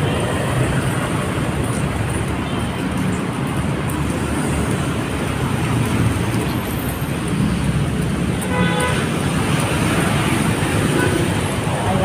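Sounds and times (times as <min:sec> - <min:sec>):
city road traffic rumble: 0:00.0 - 0:12.0.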